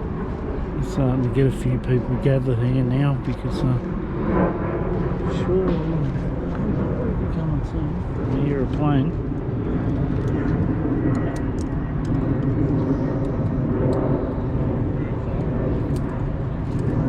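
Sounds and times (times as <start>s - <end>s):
plane engines droning: 0.0s - 17.0s.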